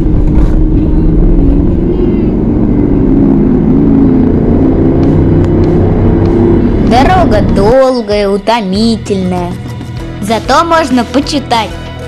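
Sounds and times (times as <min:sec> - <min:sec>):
car engine drone: 0:00.0 - 0:10.2
road noise: 0:00.0 - 0:12.0.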